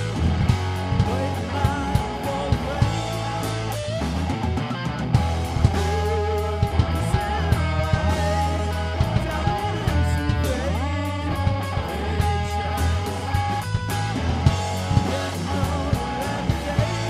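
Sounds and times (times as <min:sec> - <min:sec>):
distorted electric guitar: 0:00.0 - 0:17.0
drums with a steady beat: 0:00.0 - 0:17.0
electric bass: 0:00.0 - 0:17.0.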